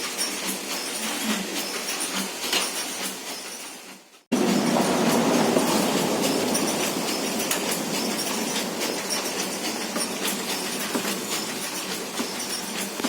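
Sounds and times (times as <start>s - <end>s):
motorcycle chain rattling: 0.0s - 13.0s.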